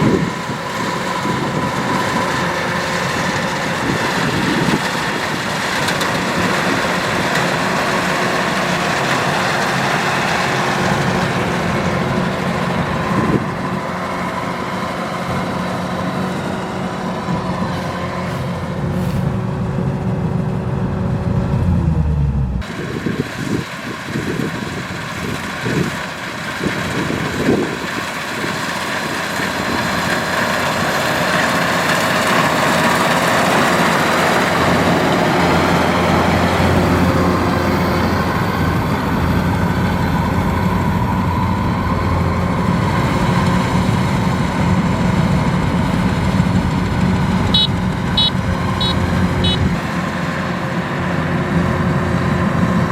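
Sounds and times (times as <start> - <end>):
combine harvester engine drone: 0.0 - 52.9
working machinery noise: 0.0 - 52.9.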